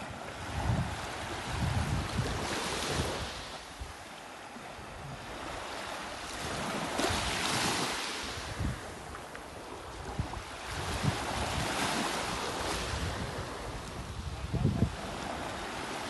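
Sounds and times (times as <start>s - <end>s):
wind rumbling on microphone: 0.0s - 4.0s, 4.7s - 16.0s
small waves washing on shore: 0.0s - 16.0s.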